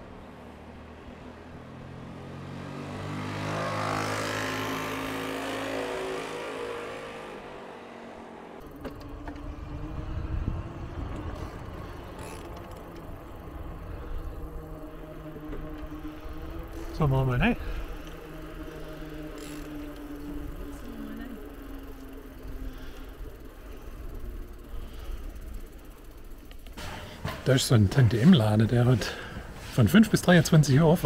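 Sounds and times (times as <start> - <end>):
vehicle passing by: 0.0 - 31.0.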